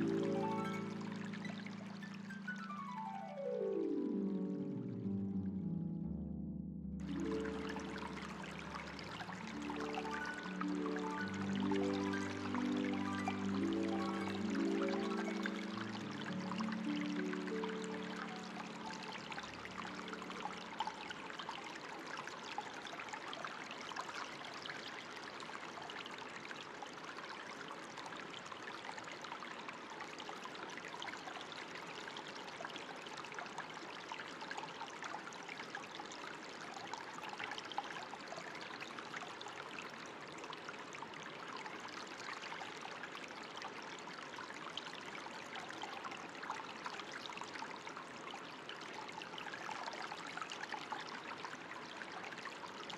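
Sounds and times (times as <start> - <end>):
water trickling and splashing: 0.0 - 5.0, 7.0 - 52.9.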